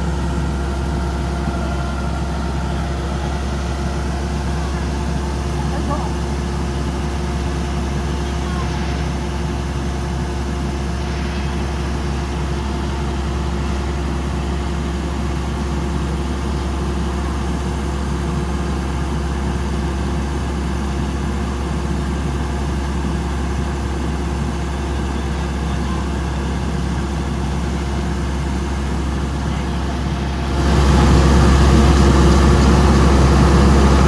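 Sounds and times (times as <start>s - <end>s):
diesel engine droning: 0.0s - 34.0s.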